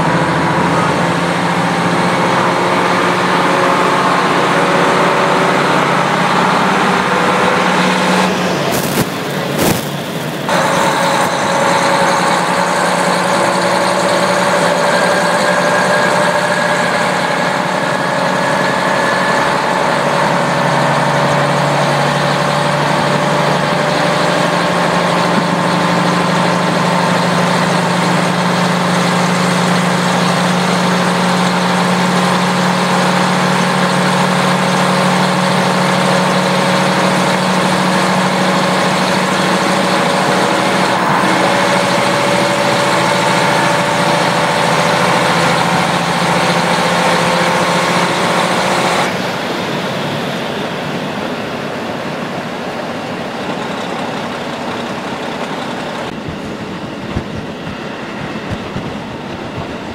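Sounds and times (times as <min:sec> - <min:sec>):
diesel railcar engine drone: 0:00.0 - 0:59.9.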